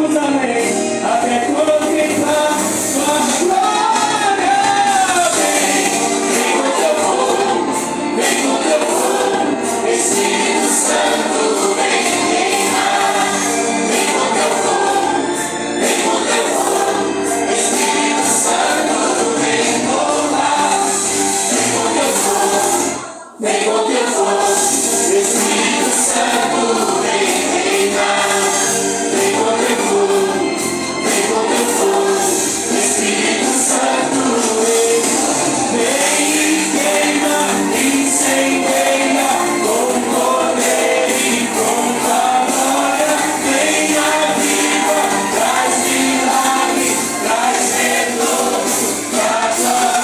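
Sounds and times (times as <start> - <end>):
group singing worship song: 0.0 - 50.0
instrumental accompaniment: 0.0 - 50.0.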